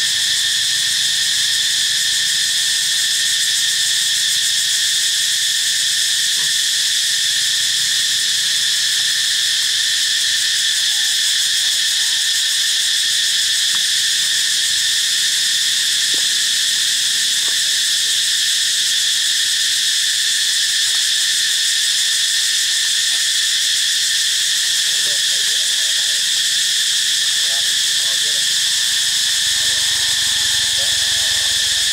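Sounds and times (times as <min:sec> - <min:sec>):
insect chorus drone: 0:00.0 - 0:31.9.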